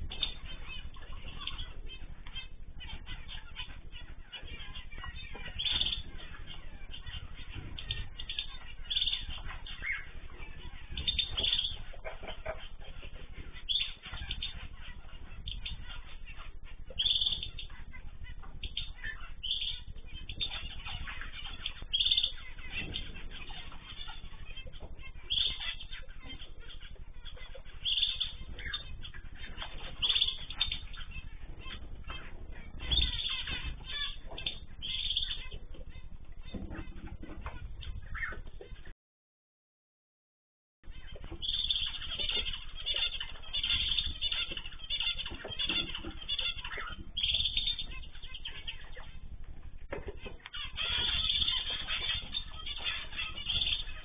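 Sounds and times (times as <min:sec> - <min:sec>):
small birds chirping: 0:00.0 - 0:38.9, 0:40.8 - 0:54.0.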